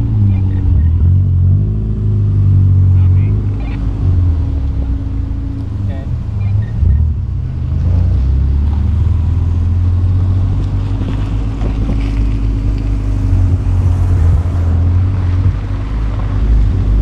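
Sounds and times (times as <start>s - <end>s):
car engine humming: 0.0s - 17.0s
wind and road noise: 0.0s - 17.0s.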